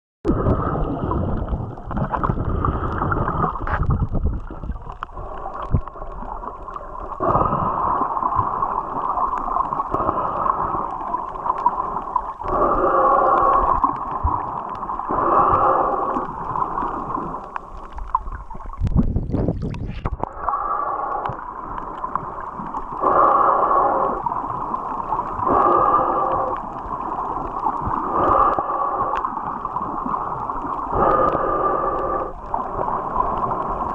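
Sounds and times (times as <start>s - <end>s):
underwater water rushing: 0.3s - 33.9s.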